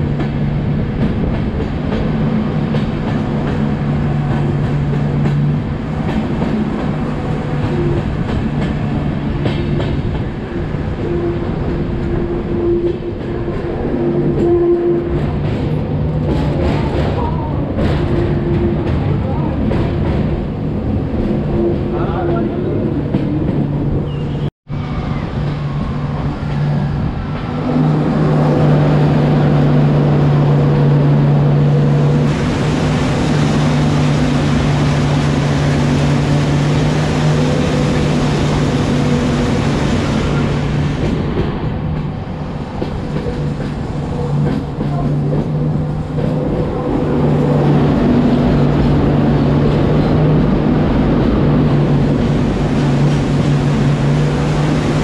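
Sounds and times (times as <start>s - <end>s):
train rumbling with low drone: 0.0s - 55.0s.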